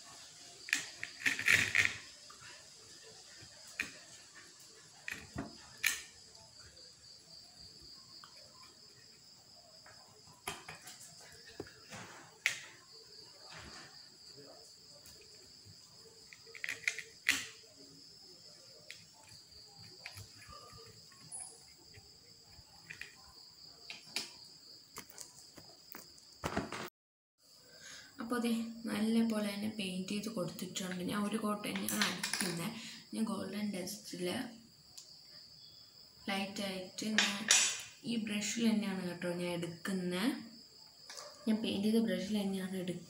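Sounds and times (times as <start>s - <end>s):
crickets chirring: 0.0s - 26.8s, 27.4s - 43.0s.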